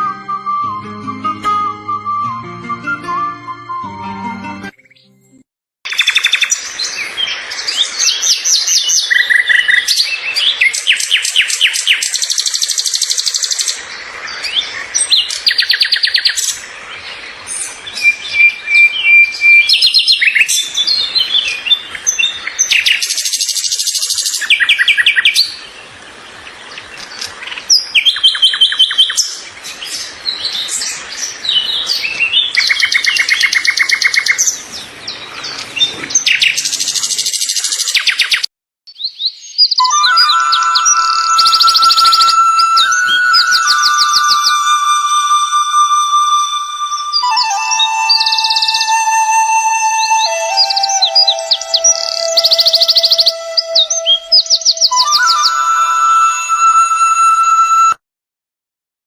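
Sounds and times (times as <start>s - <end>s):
songbirds singing and chirping: 5.9s - 56.8s.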